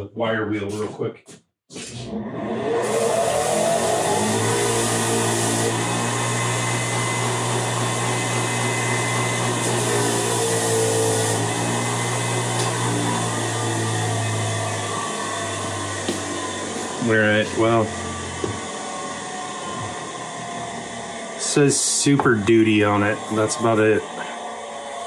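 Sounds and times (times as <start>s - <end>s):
wire wheel motor hum: 2.1s - 25.0s.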